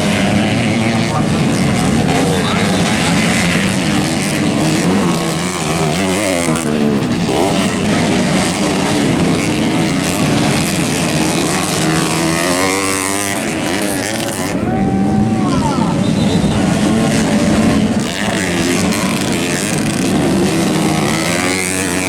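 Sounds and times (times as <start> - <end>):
dirt bike engines racing: 0.0 - 22.0.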